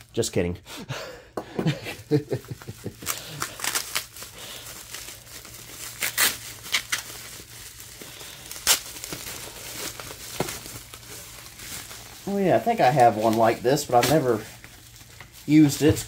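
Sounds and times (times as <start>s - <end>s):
bubble wrap crackling: 1.9s - 16.0s.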